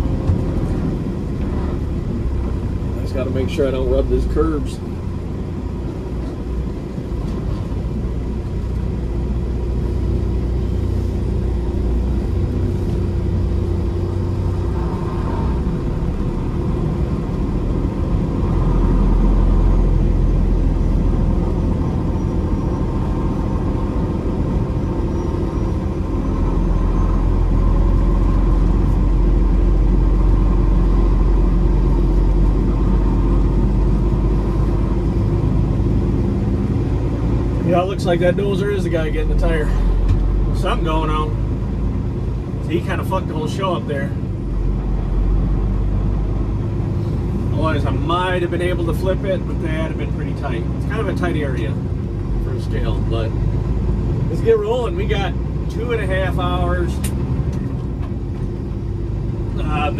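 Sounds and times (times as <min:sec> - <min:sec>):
diesel truck engine rumbling: 0:00.0 - 0:59.9.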